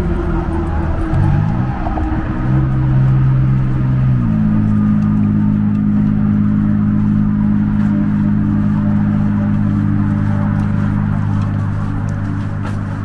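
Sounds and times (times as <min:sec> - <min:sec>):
steady traffic rumble: 0:00.0 - 0:13.0
vehicle engine hum: 0:00.0 - 0:13.0.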